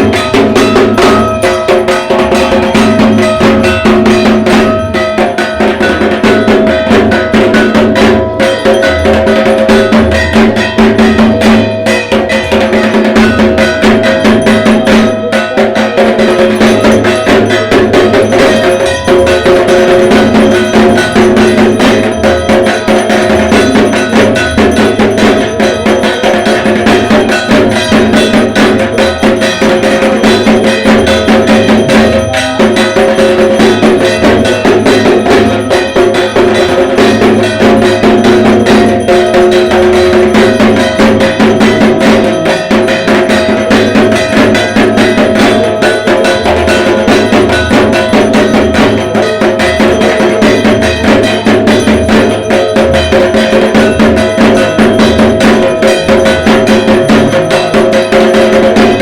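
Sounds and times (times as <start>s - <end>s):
barrel drum played with sticks: 0.0s - 59.0s.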